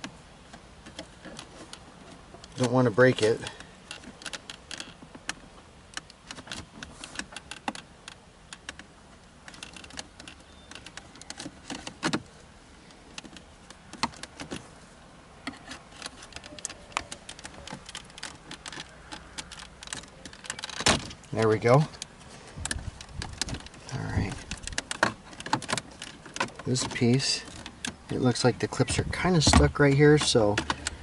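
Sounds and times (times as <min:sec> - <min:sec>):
plastic trim clicking and creaking: 0:00.0 - 0:14.6, 0:15.4 - 0:31.0.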